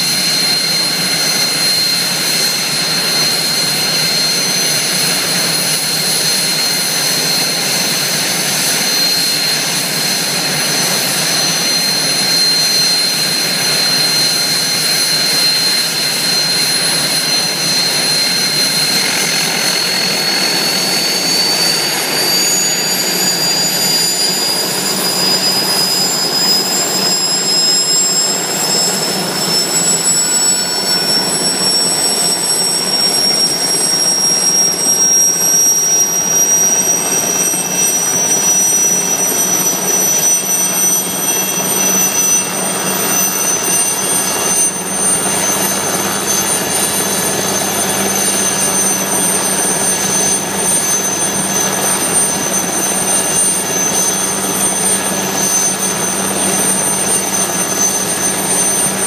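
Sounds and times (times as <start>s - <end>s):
helicopter turbine whine: 0.0s - 59.0s.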